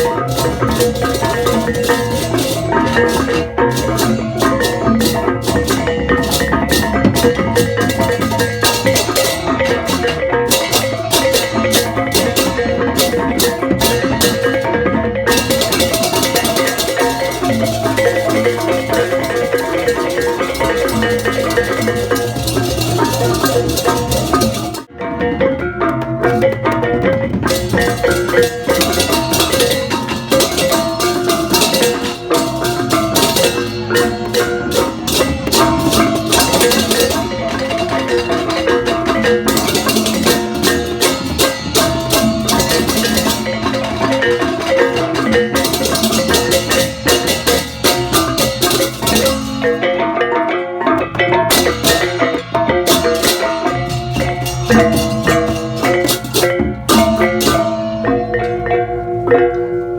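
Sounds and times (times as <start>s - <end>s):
gamelan playing: 0.0s - 59.9s.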